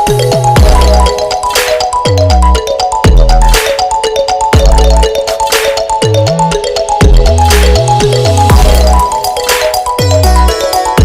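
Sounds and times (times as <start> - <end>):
electronic beat music: 0.0 - 11.0.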